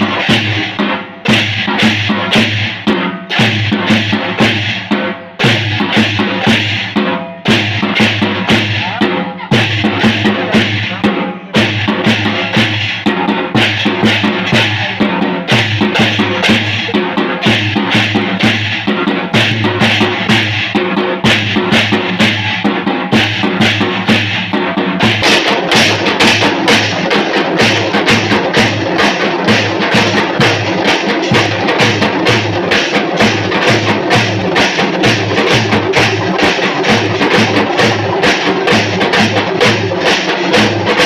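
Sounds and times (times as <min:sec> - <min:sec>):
brass hand cymbals clashing: 0:00.0 - 0:41.0
drum and cymbal band: 0:00.0 - 0:41.0.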